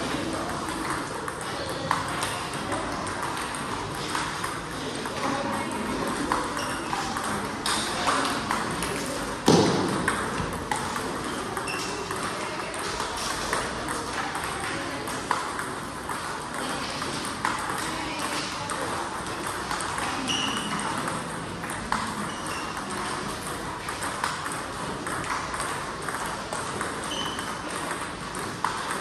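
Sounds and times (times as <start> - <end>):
ping pong ball clicks: 0.0 - 29.0.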